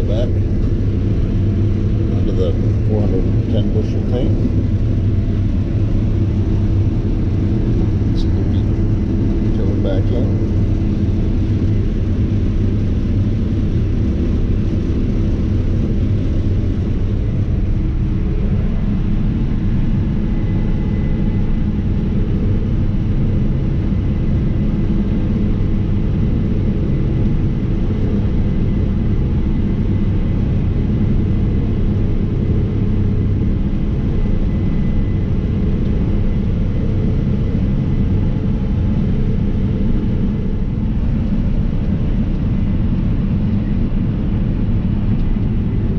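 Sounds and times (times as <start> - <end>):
combine harvester engine drone: 0.0 - 45.9.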